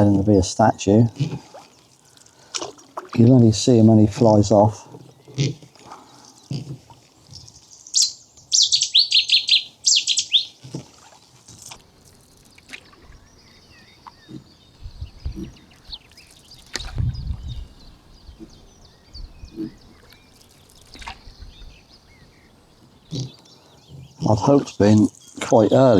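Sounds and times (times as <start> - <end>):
songbird singing: 0.0 - 25.9.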